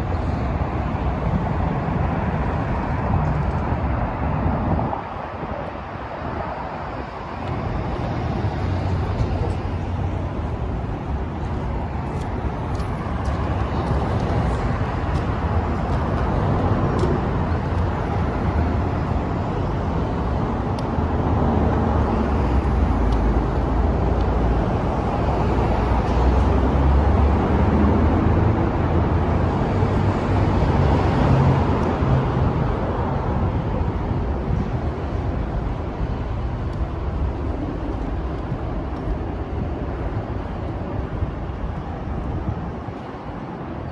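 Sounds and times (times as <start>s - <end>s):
freeway traffic rumble: 0.0s - 43.9s.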